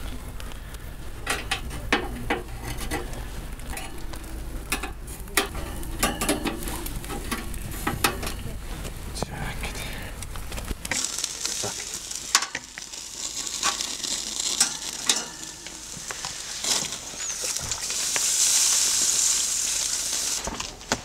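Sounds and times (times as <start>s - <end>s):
water hissing on grill: 0.0s - 20.8s
sharp crackles: 0.0s - 21.0s
skewers sizzling over coals: 0.0s - 21.0s.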